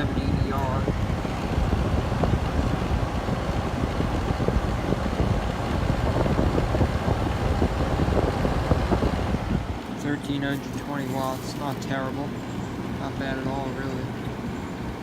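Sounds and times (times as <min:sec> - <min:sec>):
air conditioner fan rushing: 0:00.0 - 0:15.0.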